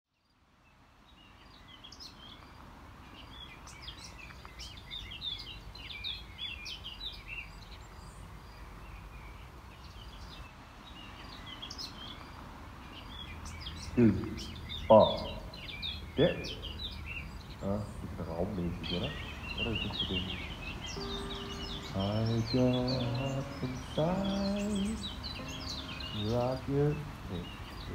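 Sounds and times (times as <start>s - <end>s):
small birds chirping: 0.1s - 27.9s.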